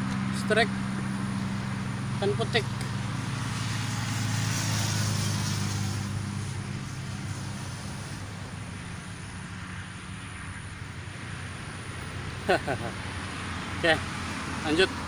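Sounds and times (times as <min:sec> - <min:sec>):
low engine hum with hiss: 0:00.0 - 0:15.0.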